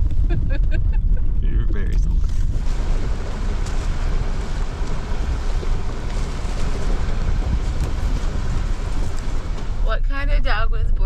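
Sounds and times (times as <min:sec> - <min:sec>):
vehicle tyres and drivetrain rumble: 0:00.0 - 0:11.0.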